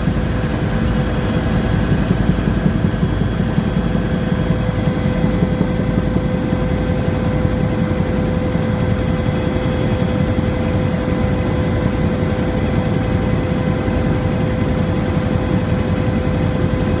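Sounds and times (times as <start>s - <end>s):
helicopter rotor and engine rumble: 0.0s - 17.0s
helicopter whine: 0.0s - 17.0s.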